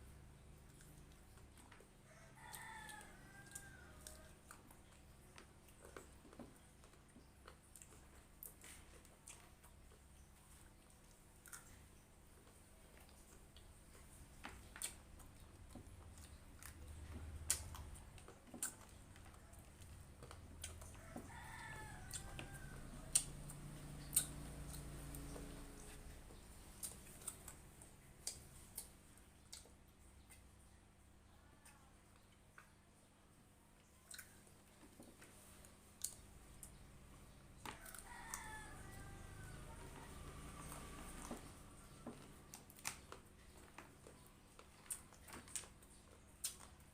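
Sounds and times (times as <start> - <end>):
person chewing food: 0.4 - 30.8, 33.8 - 46.9
clicks and taps of eating: 0.6 - 30.8, 36.0 - 46.9.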